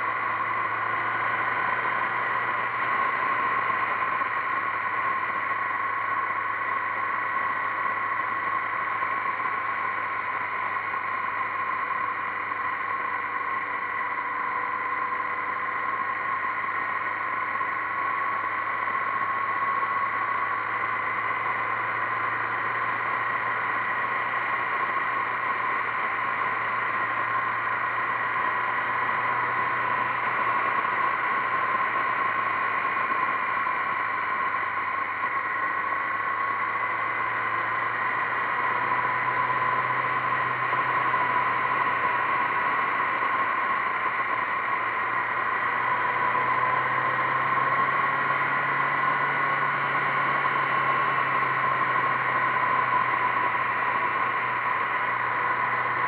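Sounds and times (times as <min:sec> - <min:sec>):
motorcycle engine drone: 0:00.0 - 0:56.0.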